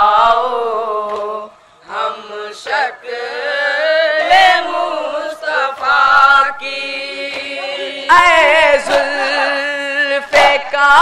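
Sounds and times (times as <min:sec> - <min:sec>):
boys chanting in chorus: 0:00.0 - 0:11.0.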